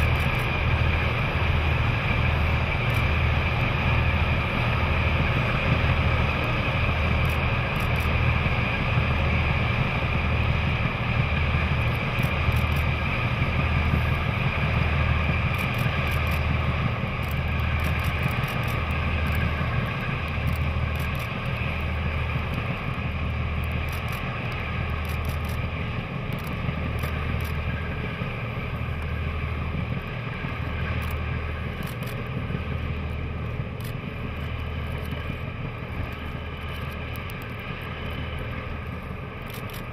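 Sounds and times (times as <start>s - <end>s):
diesel locomotive engines: 0.0s - 39.9s
steady mechanical whine: 0.0s - 39.9s.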